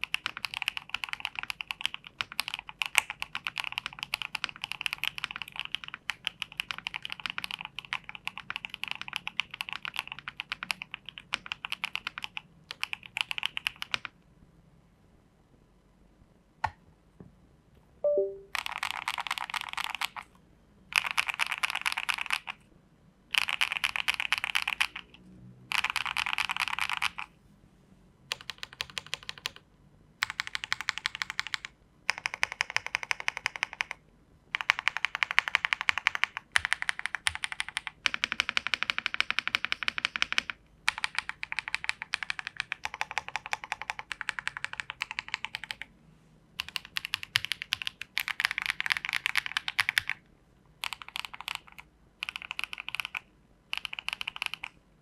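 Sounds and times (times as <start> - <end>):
mechanical keyboard typing: 0.0 - 14.2, 18.1 - 20.3, 20.9 - 22.6, 23.3 - 25.1, 25.7 - 27.3, 28.3 - 29.6, 30.2 - 45.9, 46.6 - 50.2, 50.8 - 54.8.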